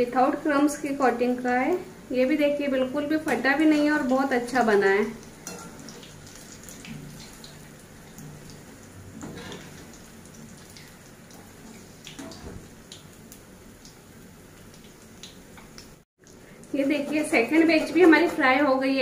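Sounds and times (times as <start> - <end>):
bread deep-frying in oil: 0.0 - 19.0.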